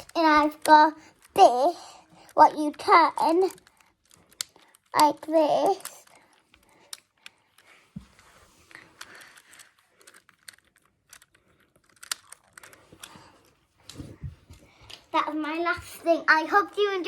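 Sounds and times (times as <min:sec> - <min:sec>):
plastic fidget toy clicking: 0:00.0 - 0:14.0.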